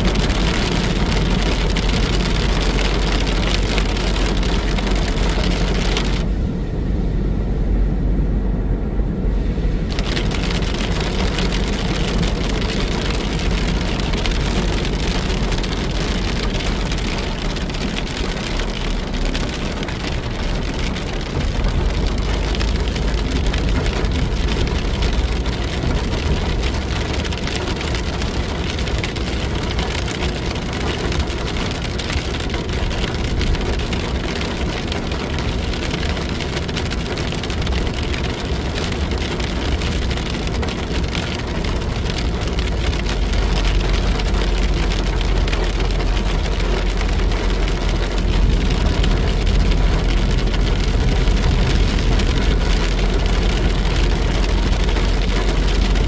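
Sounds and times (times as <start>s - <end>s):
steady rain falling: 0.0s - 6.3s, 9.9s - 56.0s
vehicle and road rumble: 0.0s - 56.0s.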